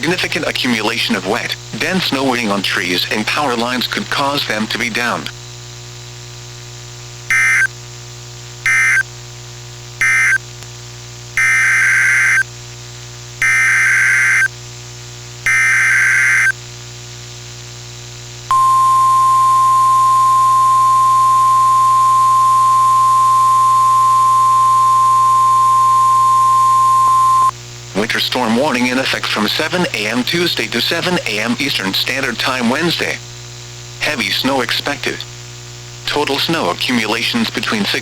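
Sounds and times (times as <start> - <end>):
low hum and hiss: 0.0 - 38.0.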